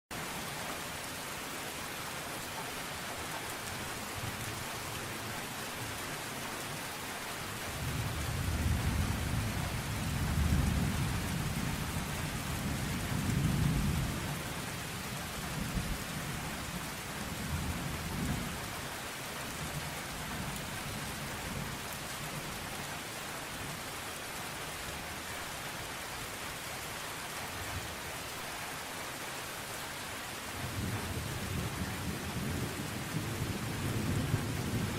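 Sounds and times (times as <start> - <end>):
rain falling on a car: 0.1 - 34.9.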